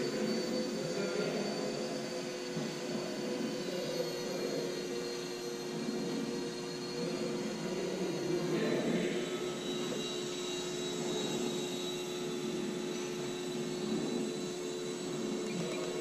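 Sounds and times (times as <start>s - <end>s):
model plane electric motor whine: 0.0s - 16.0s.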